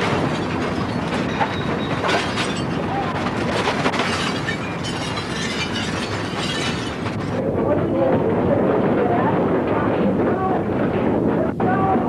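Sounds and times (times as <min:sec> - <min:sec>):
loose objects clattering and rattling: 0:00.0 - 0:11.1
earthquake rumble: 0:00.0 - 0:12.0.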